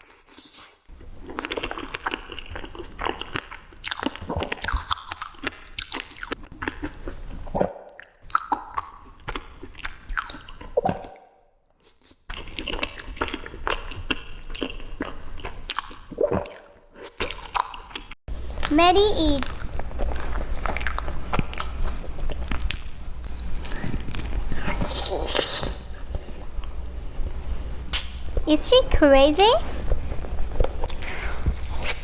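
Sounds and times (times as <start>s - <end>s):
chewing and biting sweets: 0.1s - 18.7s, 19.4s - 27.0s, 29.4s - 32.0s.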